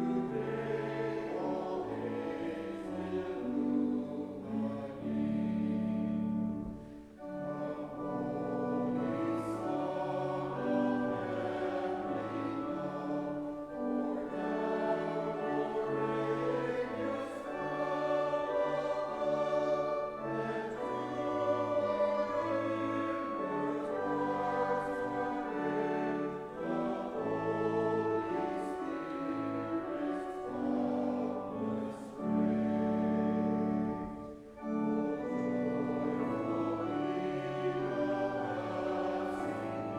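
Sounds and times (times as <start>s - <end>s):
congregation singing a hymn: 0.0s - 39.9s
instrumental accompaniment: 0.0s - 39.9s.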